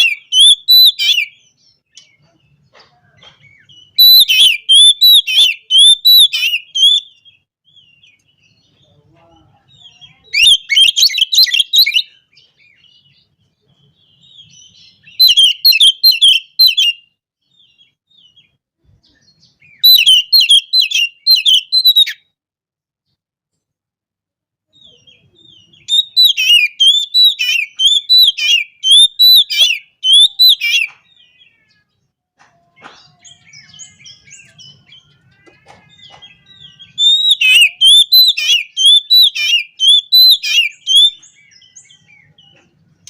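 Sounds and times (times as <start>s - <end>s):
bird singing whistles and chirps: 0.0s - 8.8s, 9.8s - 22.3s, 24.7s - 31.5s, 33.0s - 42.7s.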